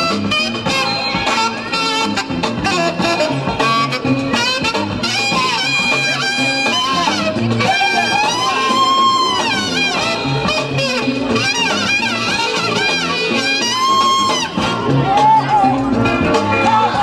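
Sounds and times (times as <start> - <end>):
upbeat music with brass horns: 0.0 - 17.0.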